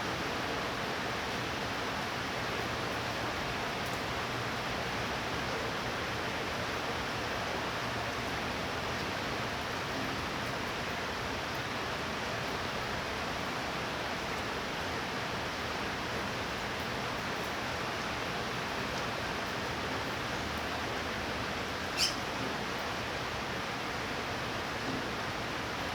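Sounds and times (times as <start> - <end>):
steady rain: 0.0 - 25.9.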